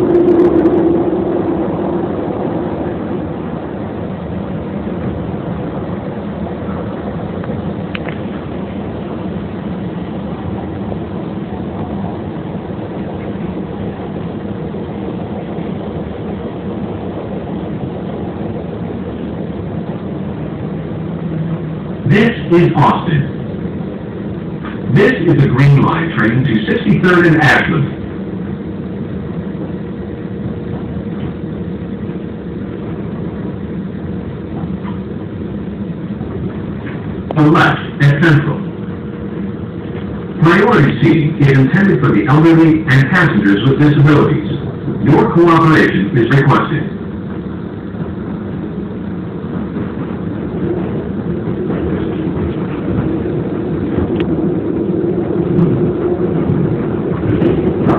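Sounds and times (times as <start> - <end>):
rail car rumble: 0.0 - 57.9.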